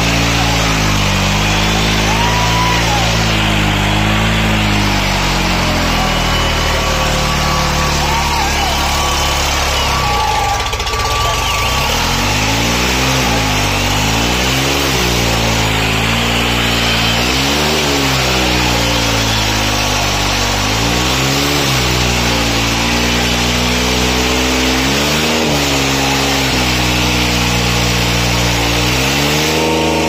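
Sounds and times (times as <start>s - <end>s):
crowd voices and shouts: 0.0s - 30.0s
tractor diesel engine labouring: 0.0s - 30.0s.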